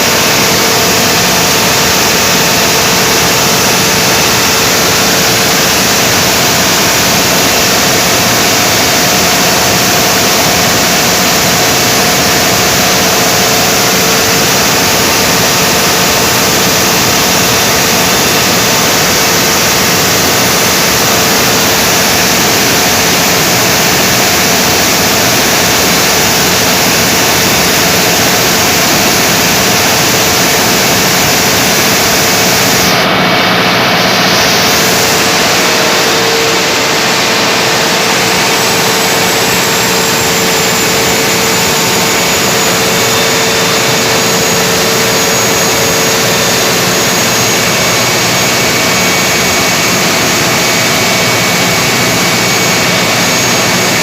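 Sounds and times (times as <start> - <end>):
generator running: 0.0 - 54.0.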